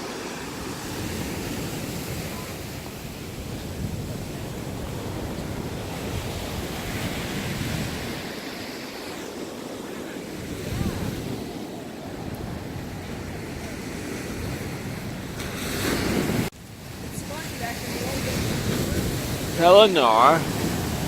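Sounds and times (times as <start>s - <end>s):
ocean surf washing: 0.0s - 21.0s
wind buffeting microphone: 0.6s - 21.0s.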